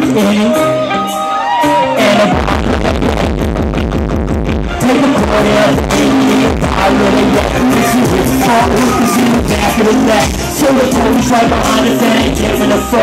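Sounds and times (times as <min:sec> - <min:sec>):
hip-hop beat over loudspeakers: 0:00.0 - 0:13.0.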